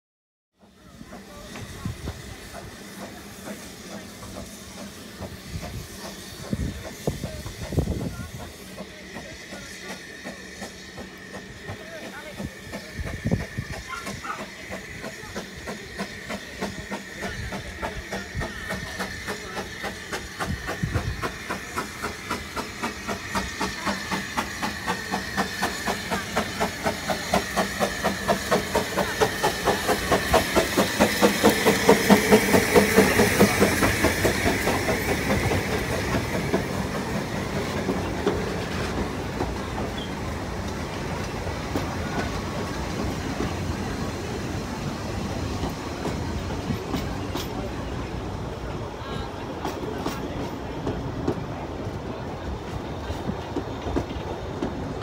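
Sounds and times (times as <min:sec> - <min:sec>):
steam hissing: 0:00.6 - 0:55.0
steam locomotive chuffing: 0:00.6 - 0:55.0.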